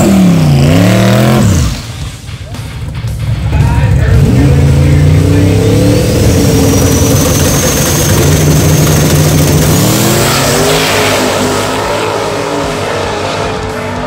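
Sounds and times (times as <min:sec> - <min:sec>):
drag racing car engines: 0:00.0 - 0:14.0.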